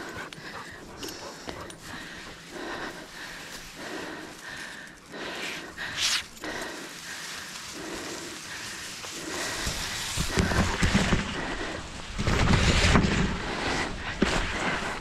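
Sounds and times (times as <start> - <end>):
grass rustling against camera: 0.0 - 15.0.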